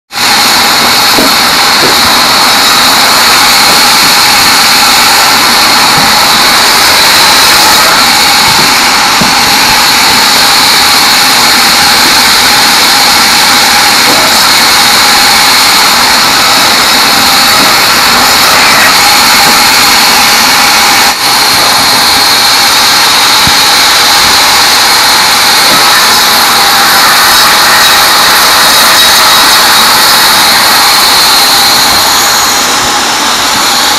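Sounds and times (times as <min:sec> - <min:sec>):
band saw cutting logs: 0:00.1 - 0:33.9.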